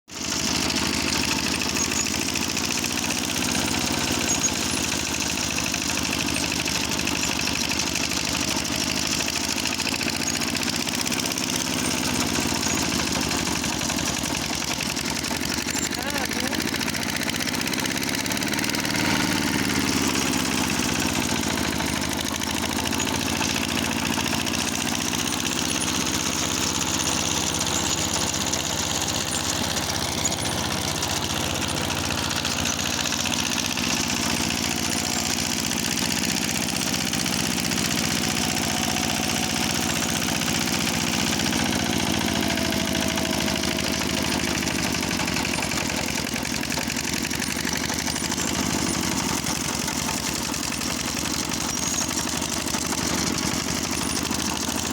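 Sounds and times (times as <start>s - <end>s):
walk-behind tractor engine running: 0.1s - 54.9s.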